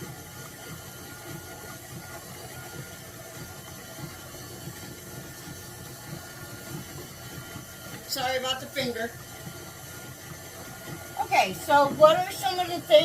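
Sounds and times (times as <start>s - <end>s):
electric mixer running: 0.0s - 13.0s.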